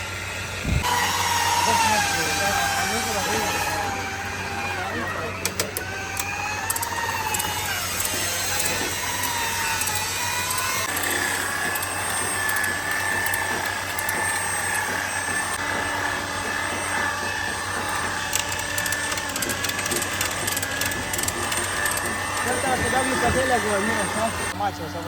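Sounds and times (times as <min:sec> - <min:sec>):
power tool whining: 0:00.0 - 0:25.0.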